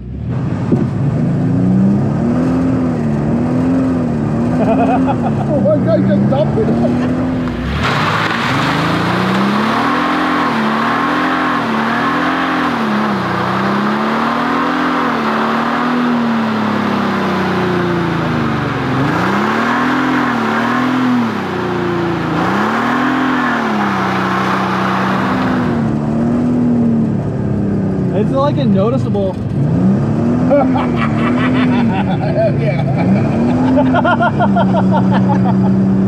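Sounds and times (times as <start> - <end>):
minivan engine revving: 0.0 - 36.0.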